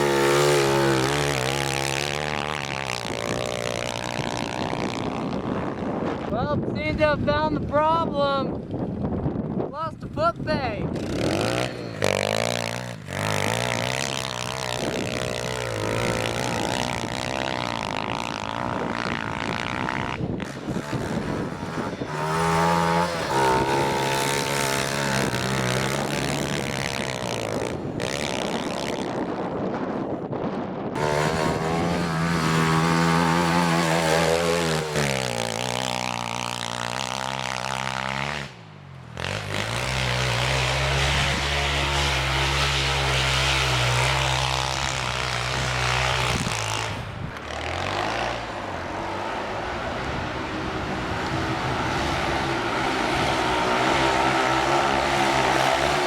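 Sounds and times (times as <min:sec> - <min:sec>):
pit bike engine revving: 0:00.0 - 0:07.0, 0:10.6 - 0:29.8, 0:30.8 - 0:56.0.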